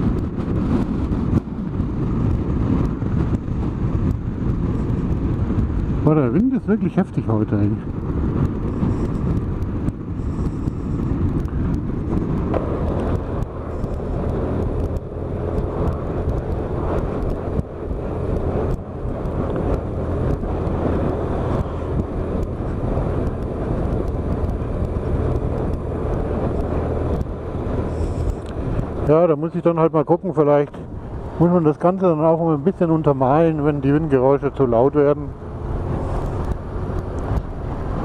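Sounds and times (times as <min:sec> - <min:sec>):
motorcycle engine running: 0:00.0 - 0:38.0
wind rushing over microphone: 0:00.0 - 0:38.0.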